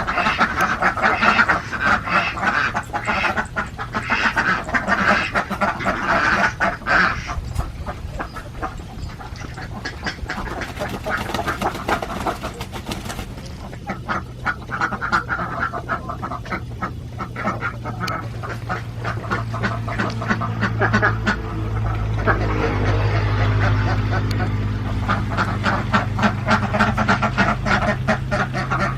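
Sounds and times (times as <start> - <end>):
ducks quacking: 0.0 - 28.9
low steady hum: 0.0 - 28.9.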